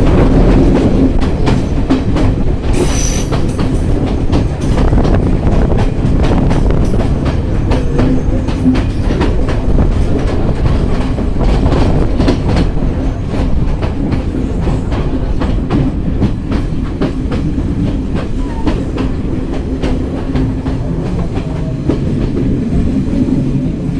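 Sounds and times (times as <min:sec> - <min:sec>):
train rumble: 0:00.0 - 0:23.9
train wheels clicking on rail joints: 0:00.0 - 0:23.9.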